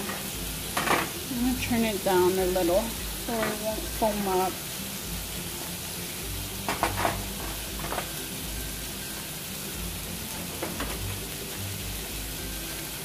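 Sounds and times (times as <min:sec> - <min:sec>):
butter sauce sizzling in a saucepan: 0:00.0 - 0:13.0.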